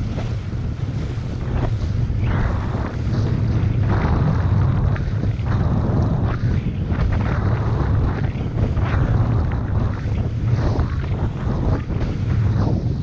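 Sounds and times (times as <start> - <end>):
rushing water and spray: 0.0 - 13.0
wind buffeting microphone: 0.0 - 13.0.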